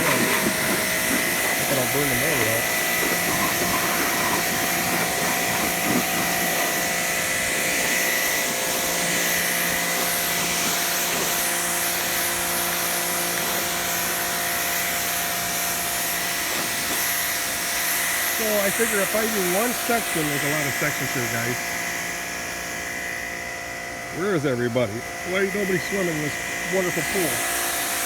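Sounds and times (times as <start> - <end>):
pressure washer droning: 0.0 - 28.0
water jet hissing on concrete: 0.0 - 28.0.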